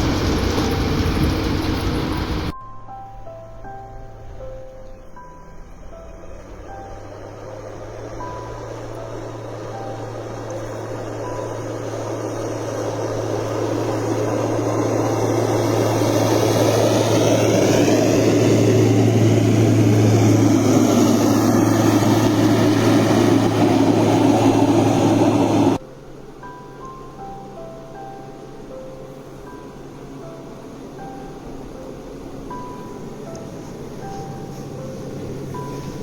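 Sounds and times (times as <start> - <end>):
snow-clearing machine engine: 0.0 - 2.5, 5.4 - 36.0.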